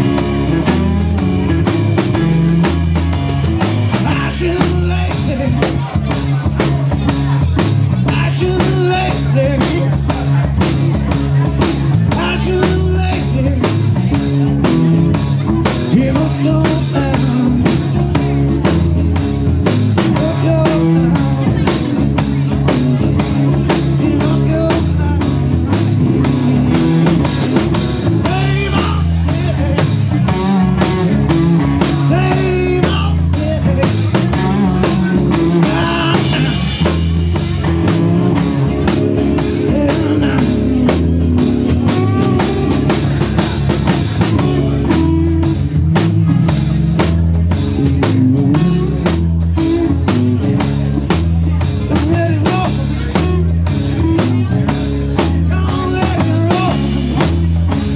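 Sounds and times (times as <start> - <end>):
bass guitar: 0.0 - 57.9
drum kit beat: 0.0 - 57.9
electric guitar: 0.0 - 57.9.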